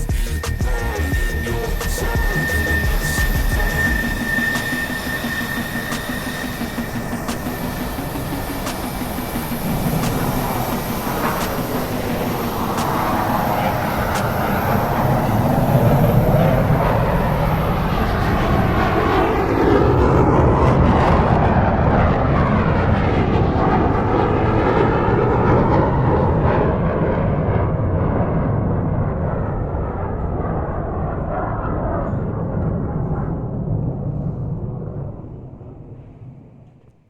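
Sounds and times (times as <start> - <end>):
airplane flying past: 0.0 - 37.0.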